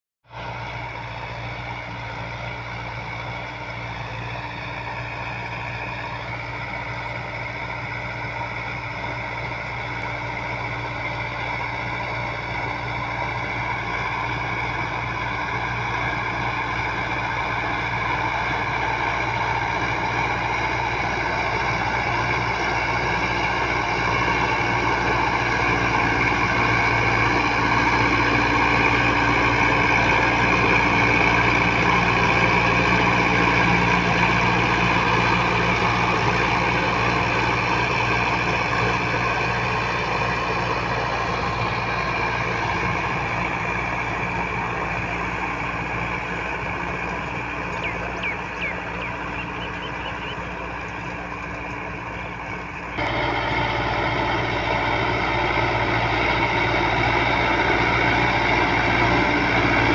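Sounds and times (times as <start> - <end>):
tractor diesel engine under load: 0.2 - 59.9.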